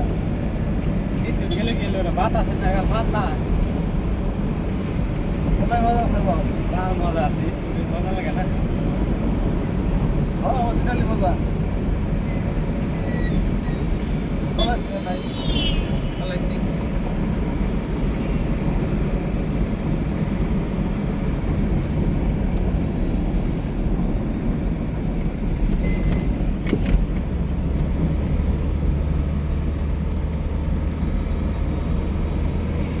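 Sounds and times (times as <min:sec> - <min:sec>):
road vehicle rumble: 0:00.0 - 0:33.0.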